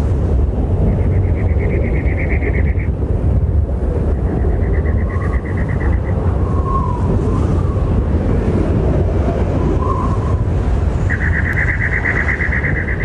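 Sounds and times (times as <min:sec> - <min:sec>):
strong wind through shrubs: 0:00.0 - 0:13.0.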